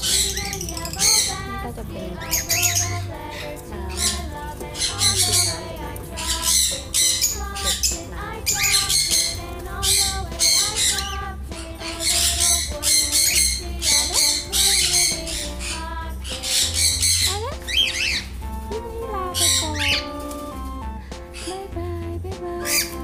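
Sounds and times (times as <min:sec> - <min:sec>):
cockatiels squawking: 0:00.0 - 0:18.4, 0:19.4 - 0:20.5
background music: 0:00.0 - 0:23.0.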